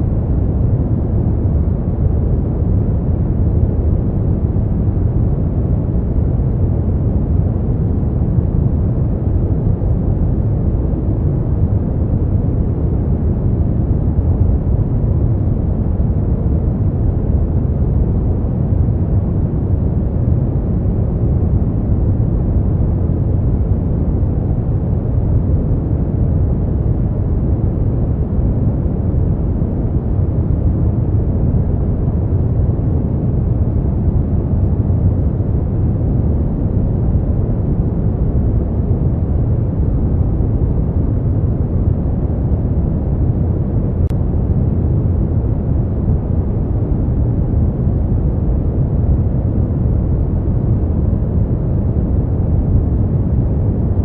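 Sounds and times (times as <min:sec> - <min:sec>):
deep white noise rushing: 0:00.0 - 0:54.0.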